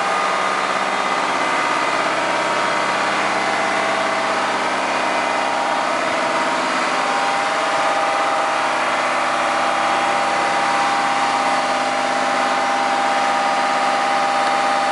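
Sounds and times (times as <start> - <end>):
engine running steadily: 0.0 - 14.9.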